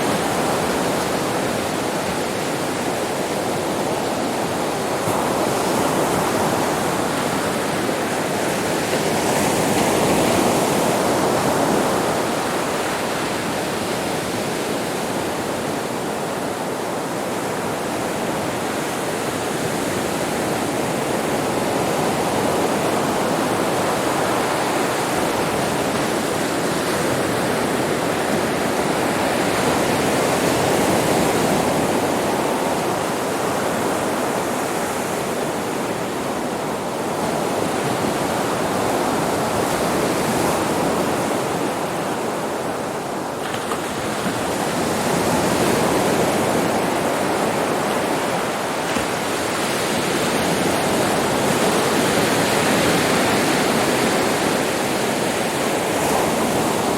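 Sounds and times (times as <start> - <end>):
sea waves breaking on a beach: 0.0 - 56.9.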